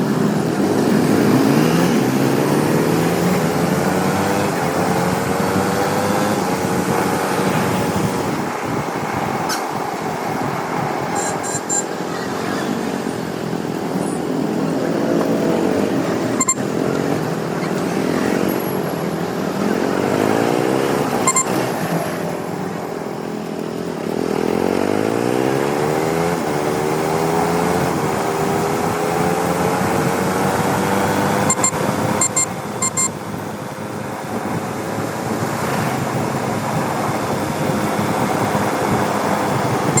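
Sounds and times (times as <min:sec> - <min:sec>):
motorcycle engine revving: 0:00.0 - 0:09.2, 0:11.1 - 0:40.0.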